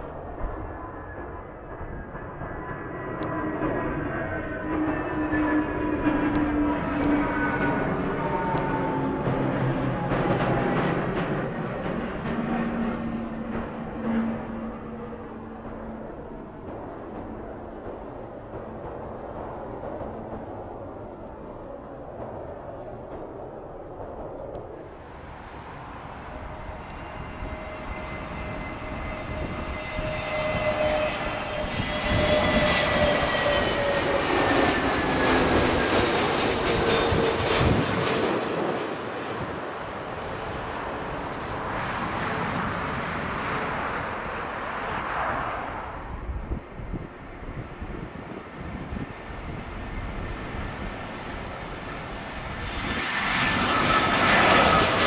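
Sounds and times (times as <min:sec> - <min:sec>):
jet airliner passing overhead: 0:00.0 - 0:55.0
jet engine whine: 0:00.0 - 0:55.0.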